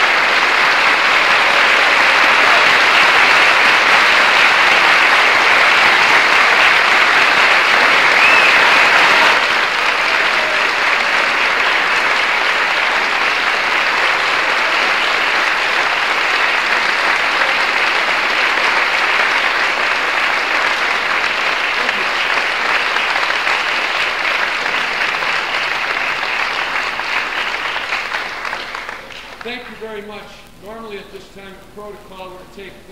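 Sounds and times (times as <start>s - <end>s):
audience applauding: 0.0s - 30.2s.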